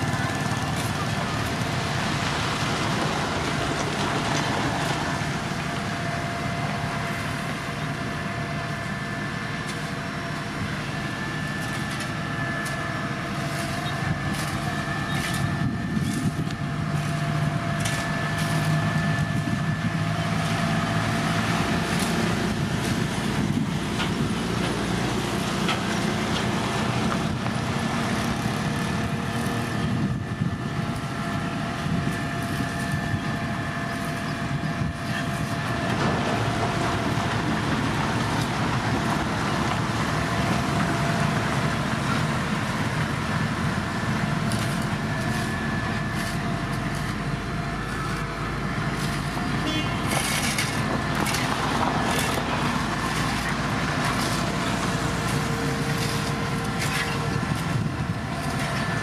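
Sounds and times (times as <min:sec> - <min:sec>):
heavy machinery engines running: 0:00.0 - 0:59.0
thin steady whine: 0:04.9 - 0:59.0.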